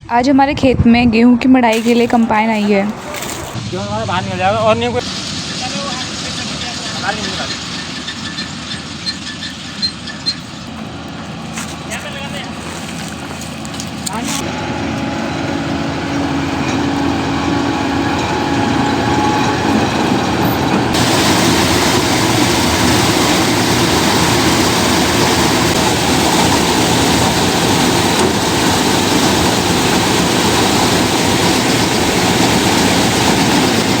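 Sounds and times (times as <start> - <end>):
combine harvester engine and threshing: 1.7 - 34.0.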